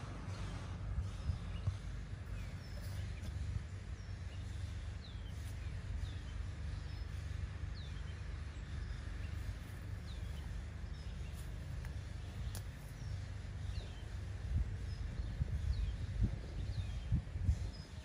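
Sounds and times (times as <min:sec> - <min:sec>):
small birds high chirps: 0:00.0 - 0:18.0
steady low rumble: 0:00.0 - 0:18.0.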